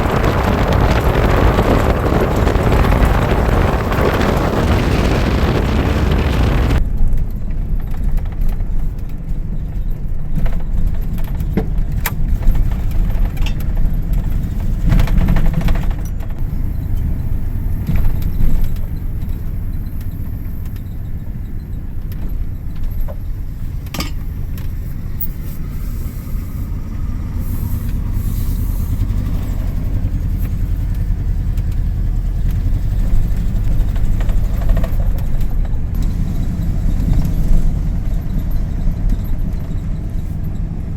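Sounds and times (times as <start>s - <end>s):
pickup truck engine under load: 0.0s - 40.9s
truck rattles and clicks: 0.0s - 40.9s.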